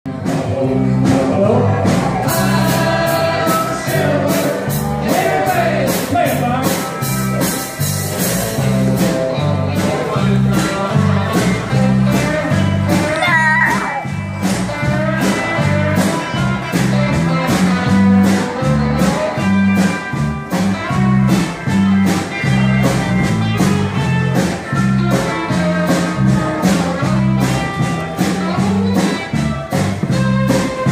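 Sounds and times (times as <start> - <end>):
live band playing dance music: 0.1 - 30.9.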